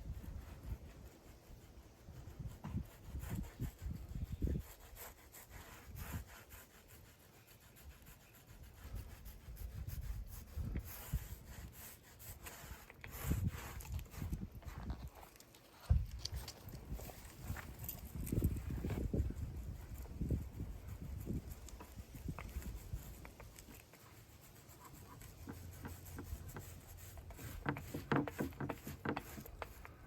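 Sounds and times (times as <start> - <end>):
hands rubbing and scraping: 0.0 - 30.0.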